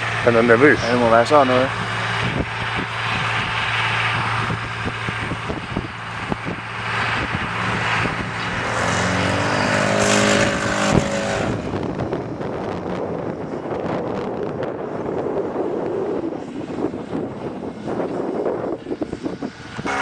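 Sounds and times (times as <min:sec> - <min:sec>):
model airplane motor droning: 0:00.0 - 0:20.0
wind buffeting microphone: 0:00.0 - 0:20.0.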